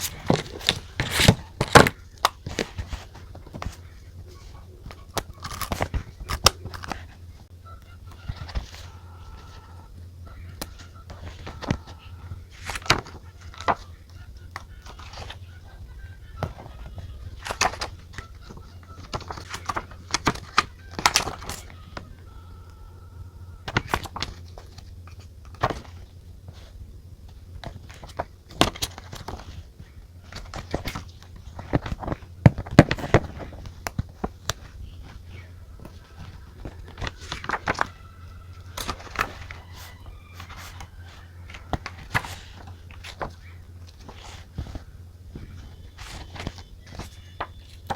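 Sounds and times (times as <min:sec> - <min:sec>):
paper rustling: 0:00.0 - 0:22.8, 0:23.4 - 0:47.9
steady low hum: 0:00.0 - 0:47.9.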